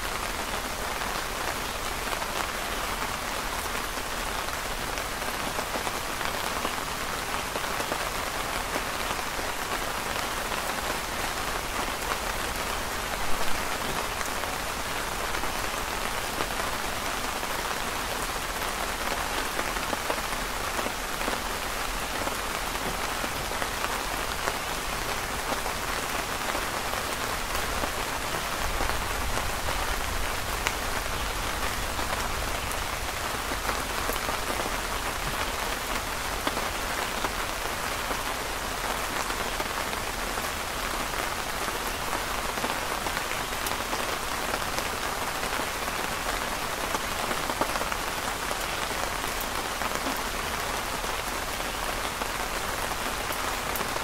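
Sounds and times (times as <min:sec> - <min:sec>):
rain pattering on fabric canopy: 0:00.0 - 0:54.0.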